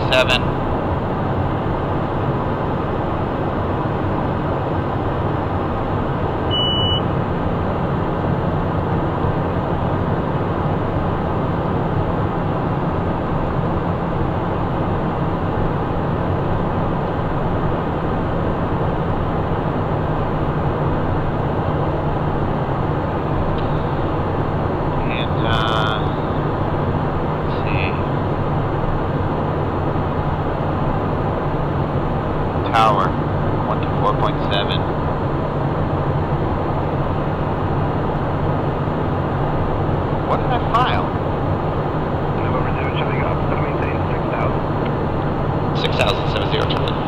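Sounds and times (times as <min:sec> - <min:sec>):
jet engines droning: 0:00.0 - 0:47.0
low hum: 0:00.0 - 0:47.0.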